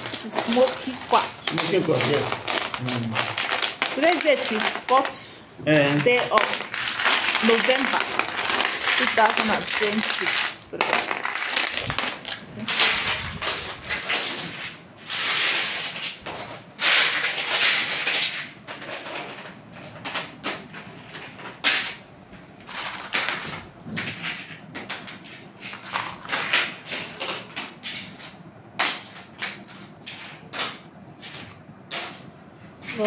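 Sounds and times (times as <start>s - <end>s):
things being handled: 0.0s - 22.0s, 22.6s - 33.0s.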